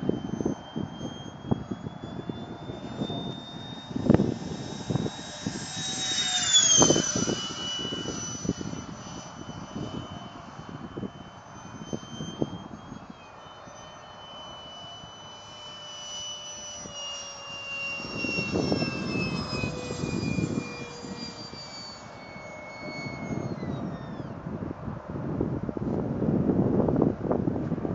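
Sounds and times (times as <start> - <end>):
wind buffeting microphone: 0.0 - 13.2, 17.9 - 27.9
electric jet motor whining: 0.0 - 27.0.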